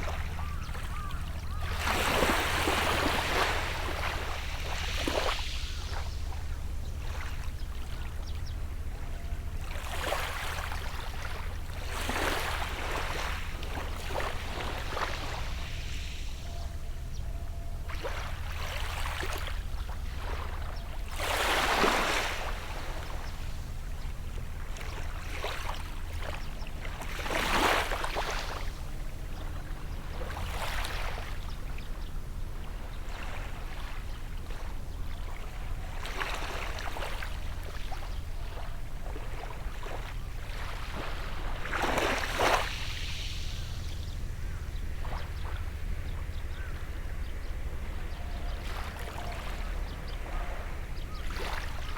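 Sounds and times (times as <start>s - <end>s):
sea waves washing onto beach: 0.0s - 8.8s, 10.2s - 16.4s, 18.3s - 51.9s
steady low rumble: 0.0s - 27.3s, 27.9s - 51.9s.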